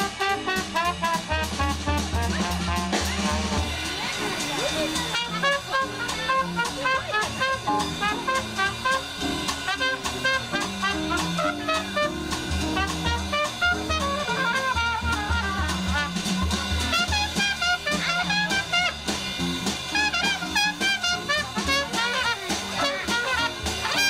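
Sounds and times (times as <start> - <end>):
live jazz band playing: 0.0 - 24.0.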